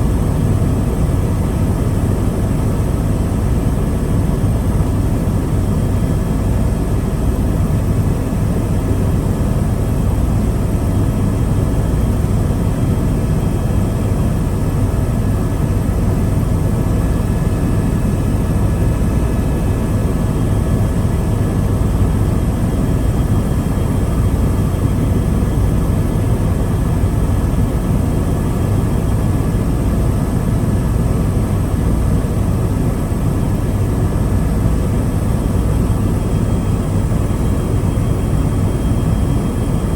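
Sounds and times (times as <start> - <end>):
faint steady whines: 0.0 - 39.9
helicopter engine and rotor noise: 0.0 - 39.9.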